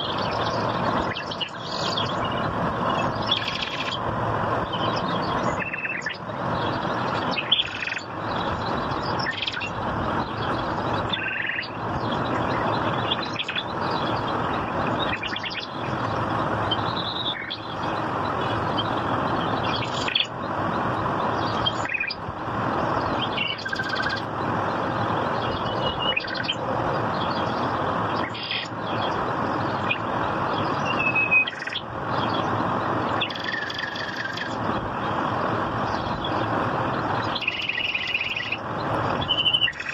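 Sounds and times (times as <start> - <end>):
birds chirping and calling: 0.0 - 39.9
steady rushing noise: 0.0 - 39.9.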